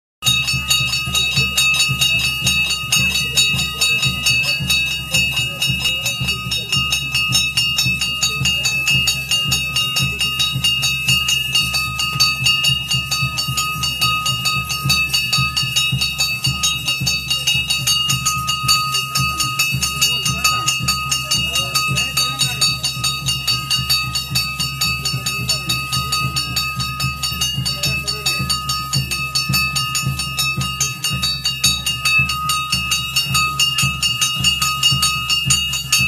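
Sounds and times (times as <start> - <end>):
high held tones: 0.2 - 36.0
jingling metal percussion: 0.2 - 36.0
loud fast drumming: 0.2 - 36.0.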